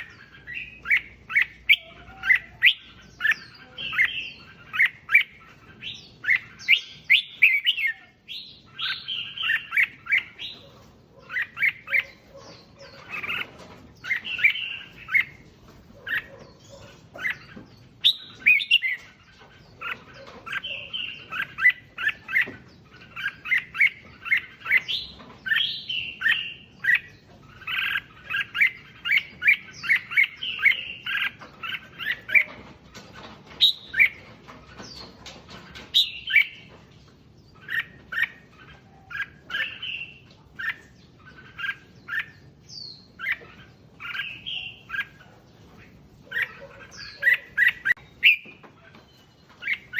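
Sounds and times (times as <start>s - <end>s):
bulbul chirping song: 0.0s - 32.6s, 37.5s - 49.9s.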